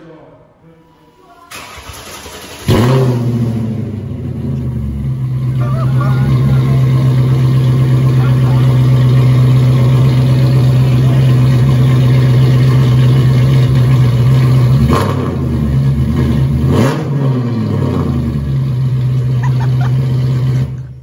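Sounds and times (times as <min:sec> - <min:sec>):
car engine idling and revving: 0:01.6 - 0:21.0.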